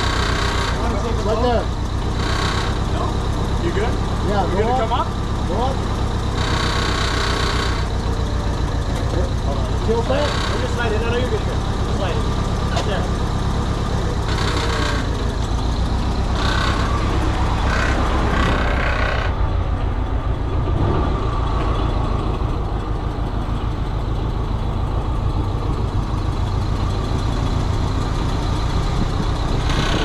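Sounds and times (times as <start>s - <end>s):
heavy equipment engine drone: 0.0s - 30.0s.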